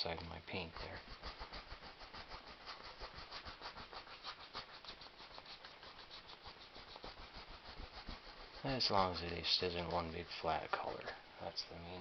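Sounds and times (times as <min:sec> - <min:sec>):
paintbrush scrubbing canvas: 0:00.0 - 0:12.0.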